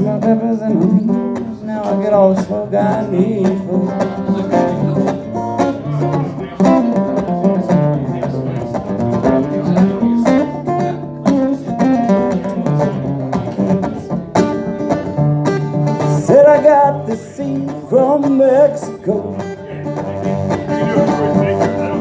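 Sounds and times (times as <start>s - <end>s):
acoustic guitar picking: 0.0s - 22.0s
person singing: 0.0s - 22.0s.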